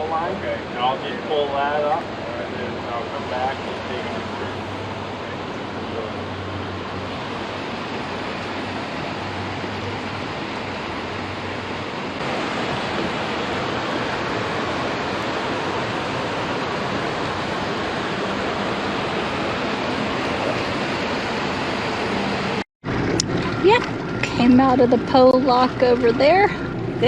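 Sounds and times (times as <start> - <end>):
wind and water rushing: 0.0 - 27.0.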